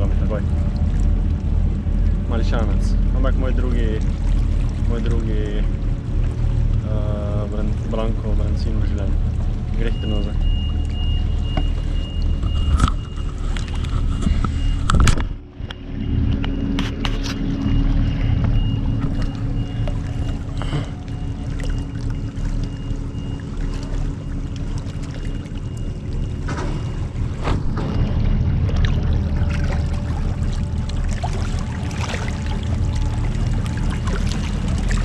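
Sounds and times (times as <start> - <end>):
ferry engines droning: 0.0 - 35.0.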